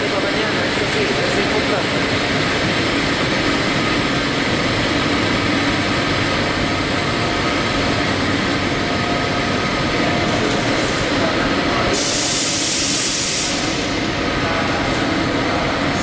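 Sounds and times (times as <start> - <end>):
machinery droning: 0.0 - 16.0.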